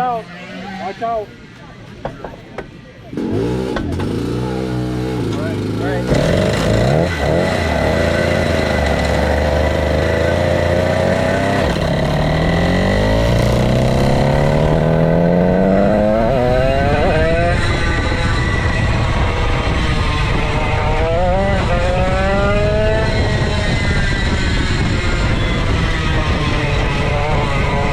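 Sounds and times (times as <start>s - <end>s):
go-kart engine accelerating: 3.1s - 27.9s.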